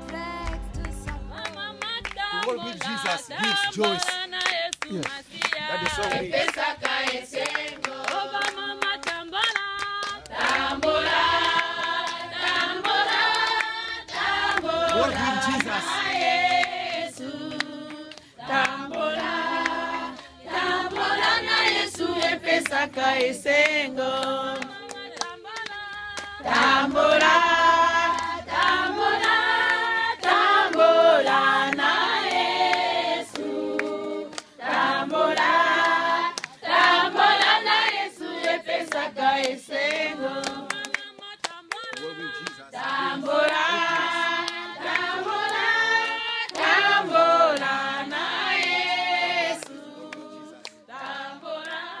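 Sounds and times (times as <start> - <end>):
hand claps: 0.0 - 52.0
women singing together: 0.0 - 52.0.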